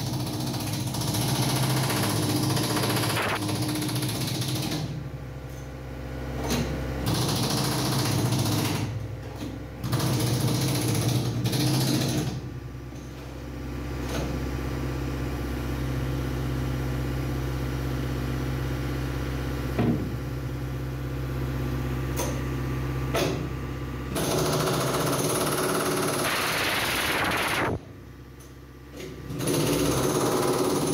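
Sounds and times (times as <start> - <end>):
steady machine hum: 5.0 - 30.8.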